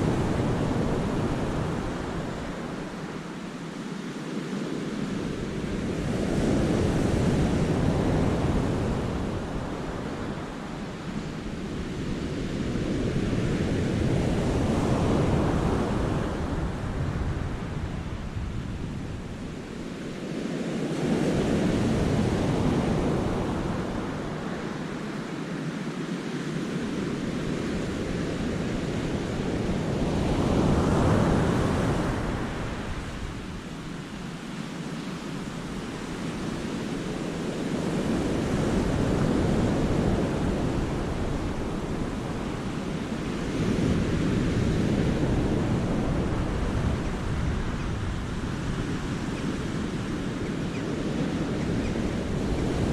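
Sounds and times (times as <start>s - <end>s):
wind rumble on microphone: 0.0s - 52.9s.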